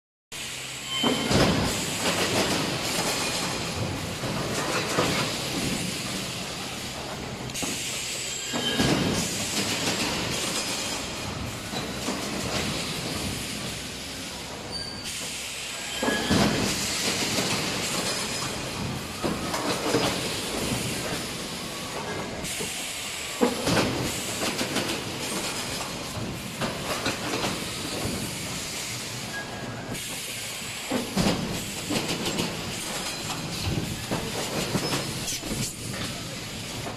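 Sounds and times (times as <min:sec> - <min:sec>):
air hiss: 0:00.4 - 0:36.9.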